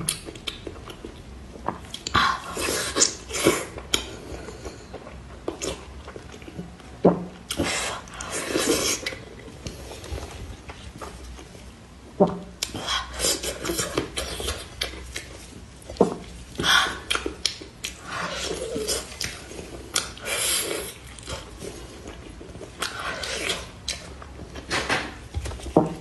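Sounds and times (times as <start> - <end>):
wet chewing and lip-smacking: 0.0 - 9.7, 12.6 - 24.4.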